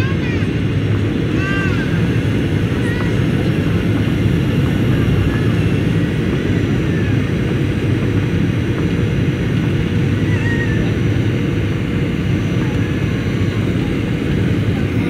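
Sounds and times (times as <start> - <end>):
airliner landing rumble: 0.0 - 15.0.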